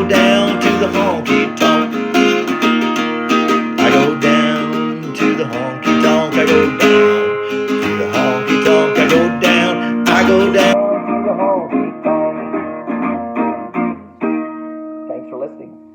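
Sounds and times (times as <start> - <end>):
acoustic guitar strumming chords: 0.0 - 15.4.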